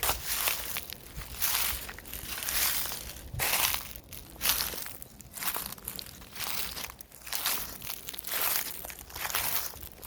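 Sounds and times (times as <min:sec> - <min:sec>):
footsteps on dry leaves: 0:00.0 - 0:10.0.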